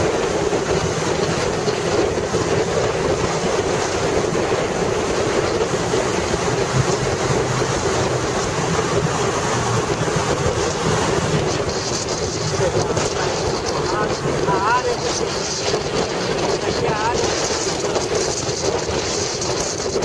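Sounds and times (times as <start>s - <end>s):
motorcycle engine running: 0.0s - 20.0s
road noise in tunnel: 0.0s - 20.0s
wind on microphone: 0.0s - 20.0s.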